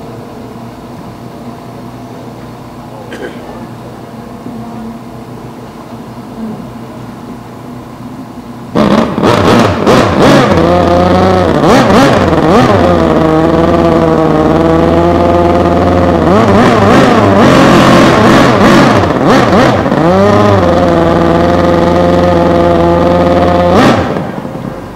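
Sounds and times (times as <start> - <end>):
racing outboard engine: 0.0 - 24.9.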